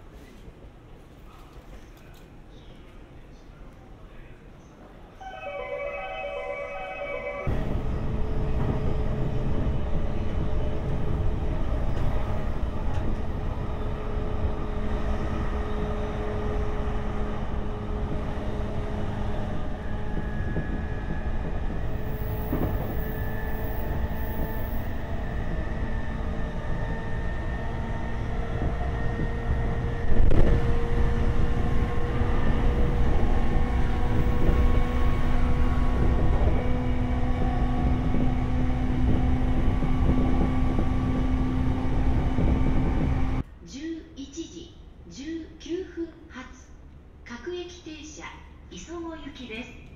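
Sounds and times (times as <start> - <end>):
train rumble on rails: 0.0 - 43.6.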